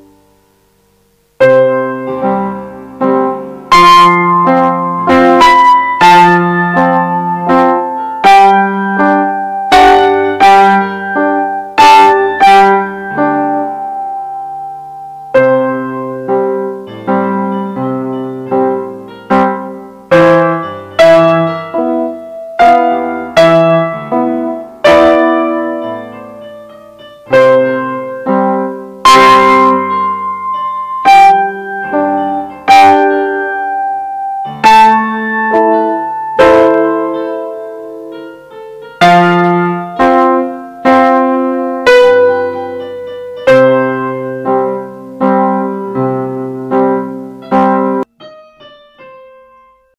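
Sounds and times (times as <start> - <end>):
digital piano waltz: 0.0 - 49.9.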